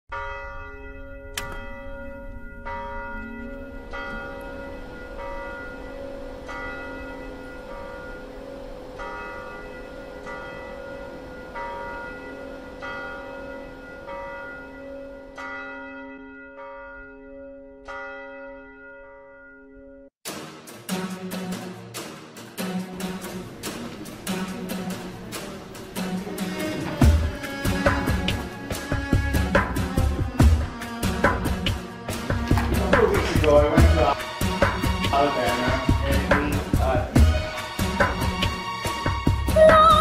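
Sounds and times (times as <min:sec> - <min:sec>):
church bell tolling: 0:00.1 - 0:20.1, 0:23.0 - 0:39.1.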